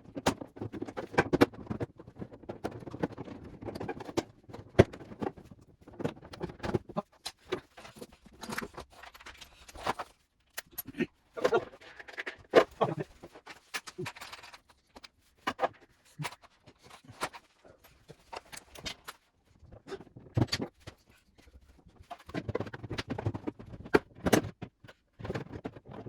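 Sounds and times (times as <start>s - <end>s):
refrigerator parts clicking and rattling: 0.0s - 26.0s.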